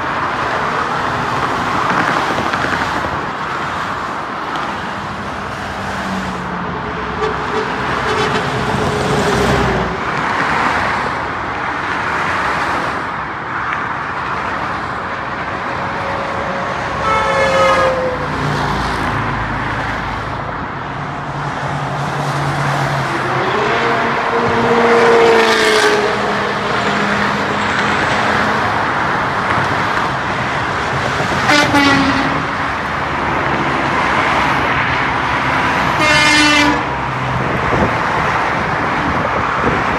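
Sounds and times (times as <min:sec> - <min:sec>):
freeway traffic noise: 0:00.0 - 0:39.9.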